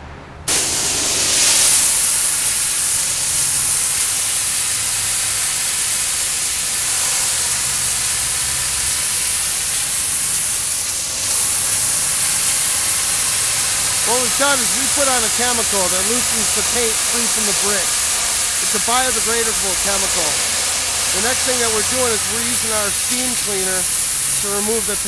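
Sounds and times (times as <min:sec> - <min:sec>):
pressure washer spraying brick: 0:00.5 - 0:25.0.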